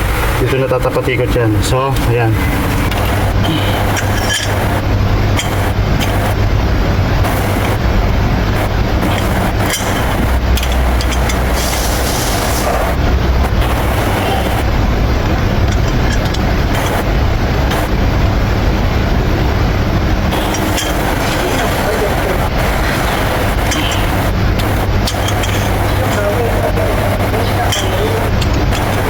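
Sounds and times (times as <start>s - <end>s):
loud rumbling with low hum: 0.0s - 29.0s.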